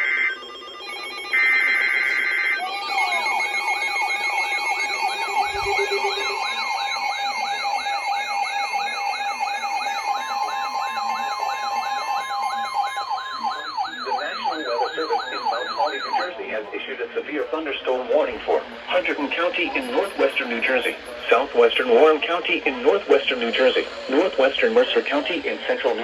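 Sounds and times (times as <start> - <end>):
warbling alarm tone: 0.0 - 26.0
yelping siren sweep: 0.0 - 26.0.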